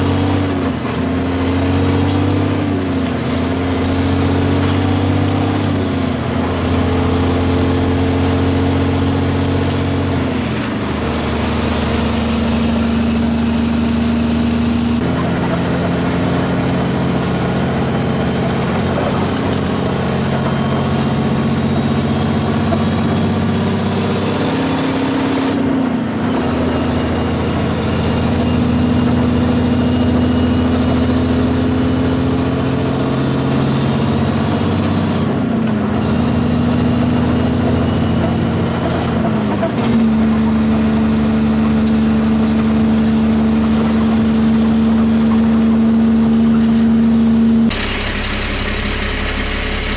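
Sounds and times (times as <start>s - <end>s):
heavy truck engine pulling: 0.0s - 49.9s.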